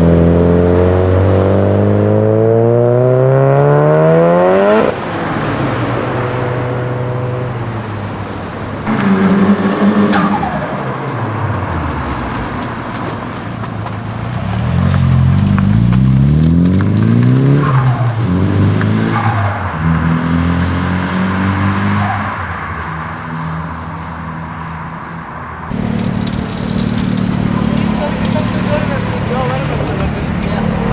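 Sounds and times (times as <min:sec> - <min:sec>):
car engine revving hard: 0:00.0 - 0:13.6, 0:14.3 - 0:22.7, 0:25.7 - 0:30.9.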